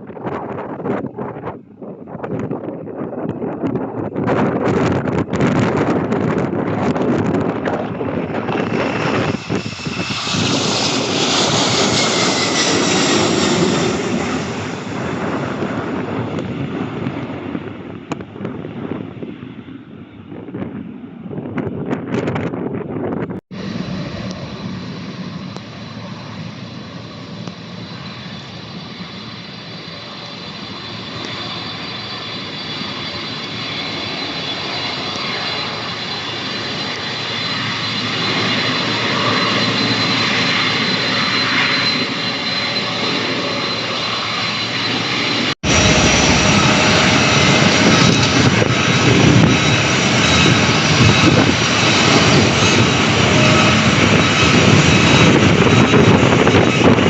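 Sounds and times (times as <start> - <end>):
airliner engines whining: 0.0 - 57.0.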